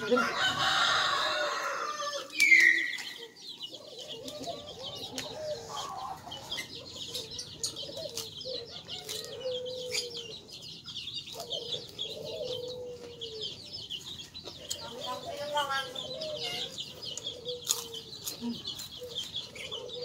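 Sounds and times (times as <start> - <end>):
chickens clucking: 0.0 - 20.0
small birds chirping: 0.0 - 20.0
crunching and chewing food: 0.6 - 15.3, 15.9 - 20.0.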